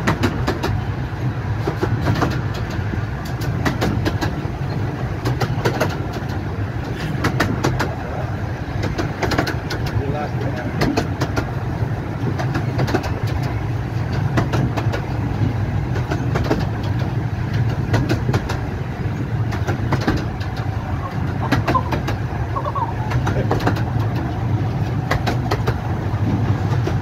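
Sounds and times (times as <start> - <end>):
train low rumble: 0.0 - 27.0
wheels clicking over rail joints: 0.0 - 27.0.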